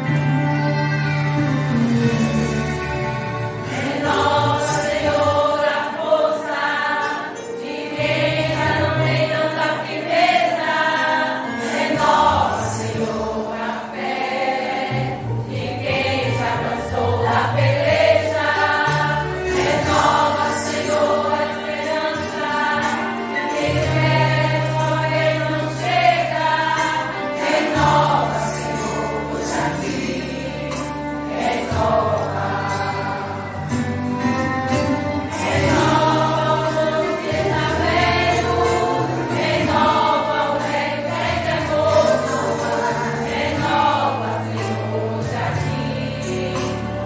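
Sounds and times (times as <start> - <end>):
instrumental accompaniment: 0.0 - 47.0
women's choir singing a hymn: 1.3 - 47.0.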